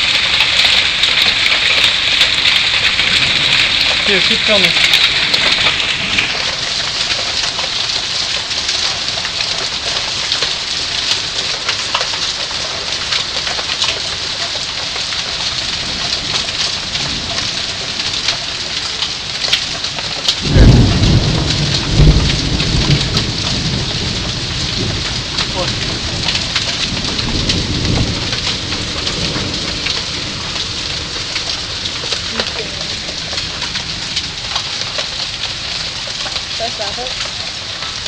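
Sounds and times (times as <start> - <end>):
hail and rain pelting down: 0.0 - 38.0
loud thunderclap rumbling: 1.0 - 10.4, 15.3 - 37.3.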